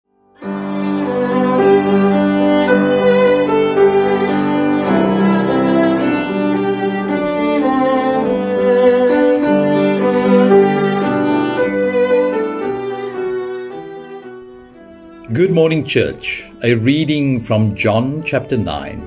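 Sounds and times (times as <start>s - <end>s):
cello: 0.3s - 19.0s
violin: 0.3s - 19.0s.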